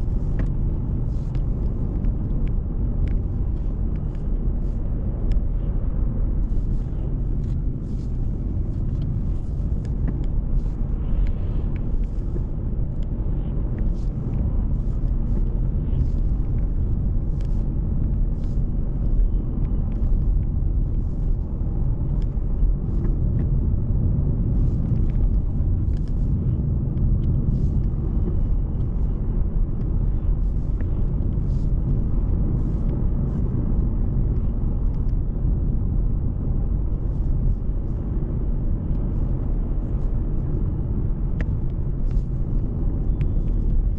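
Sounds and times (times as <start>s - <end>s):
car driving rumble: 0.0s - 43.9s.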